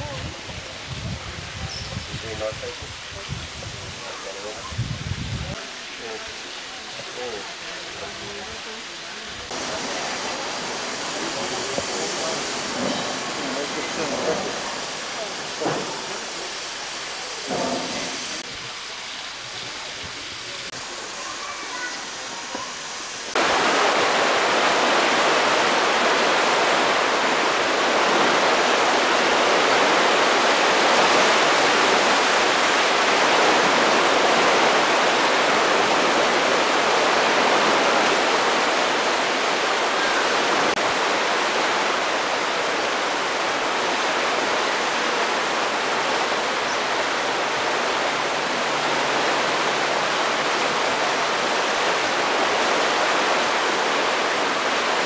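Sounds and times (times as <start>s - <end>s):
water rushing into lock chamber: 0.0s - 55.0s.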